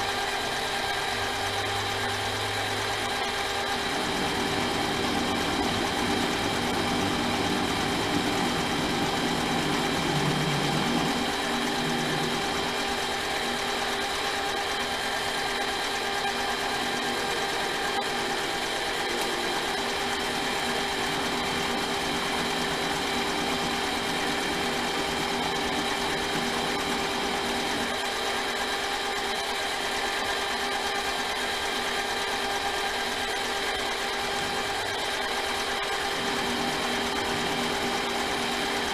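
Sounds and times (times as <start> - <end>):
metal lathe whining: 0.0 - 38.9.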